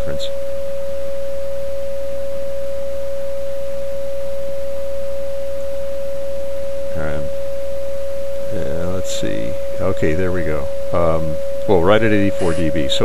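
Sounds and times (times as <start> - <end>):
constant radio whistle tone: 0.0 - 13.0.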